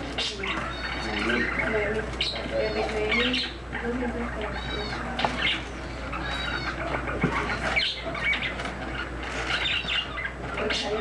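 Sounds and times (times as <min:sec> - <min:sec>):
bird chirping: 0:00.0 - 0:11.0
steady low hum: 0:00.0 - 0:11.0.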